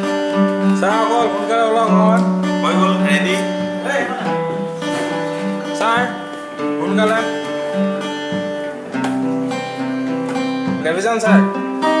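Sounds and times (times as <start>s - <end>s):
plucked guitar notes: 0.0s - 12.0s
strummed acoustic guitar: 0.0s - 12.0s.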